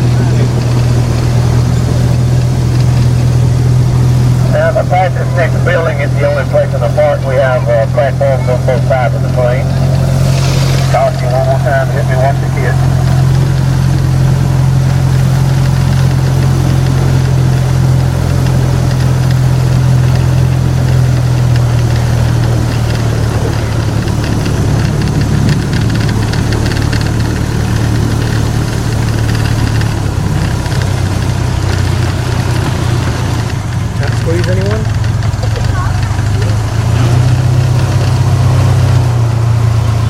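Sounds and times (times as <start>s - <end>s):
train engine droning: 0.0s - 40.0s.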